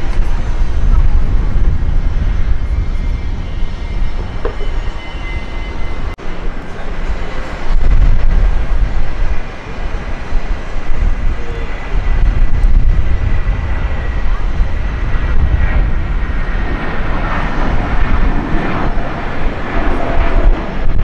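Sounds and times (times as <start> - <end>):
jet engine high whine: 0.0 - 21.0
jet engines rumbling: 0.0 - 21.0.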